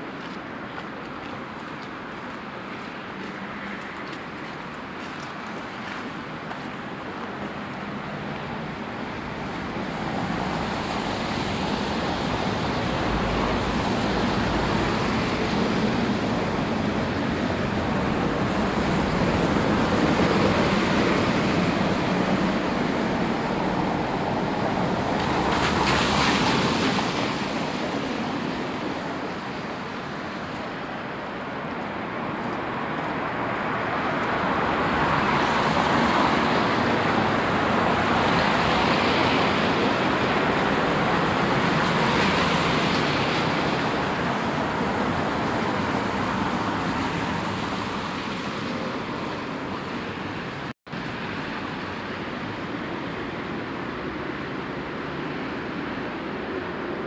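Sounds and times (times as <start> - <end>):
rain: 0.0 - 57.0.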